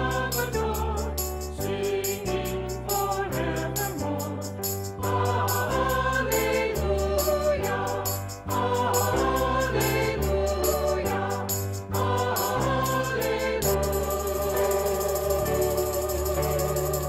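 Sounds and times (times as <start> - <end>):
choir singing: 0.0 - 17.0
instrumental accompaniment with bass: 0.0 - 17.0.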